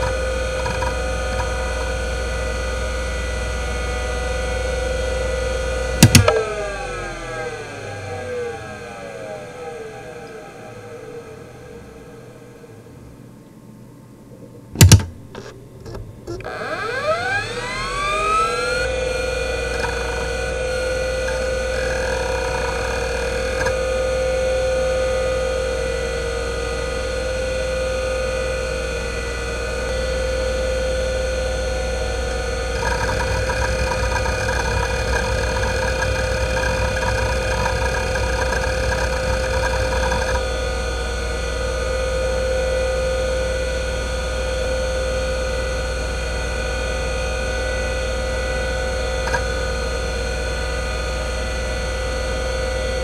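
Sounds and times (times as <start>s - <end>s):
hard drive whine: 0.0s - 53.0s.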